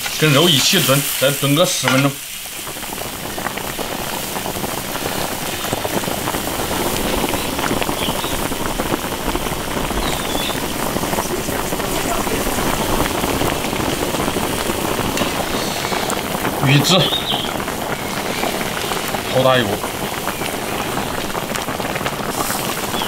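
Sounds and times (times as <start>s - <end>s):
stew bubbling in a wok: 0.0s - 23.0s.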